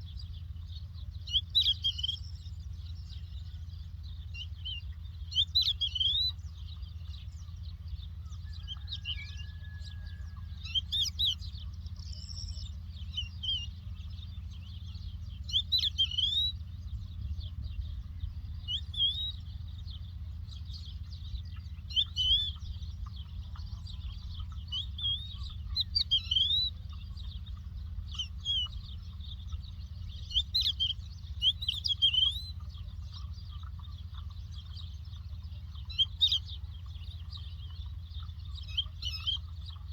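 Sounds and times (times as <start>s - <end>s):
lark singing: 0.0s - 39.9s
steady low rumble: 0.0s - 39.9s.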